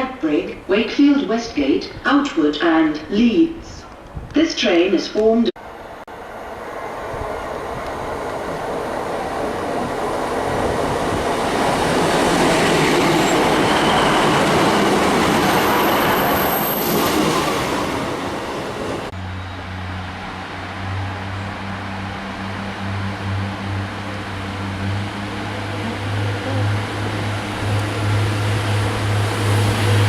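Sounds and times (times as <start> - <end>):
train rumbling past on rails: 5.6 - 30.0.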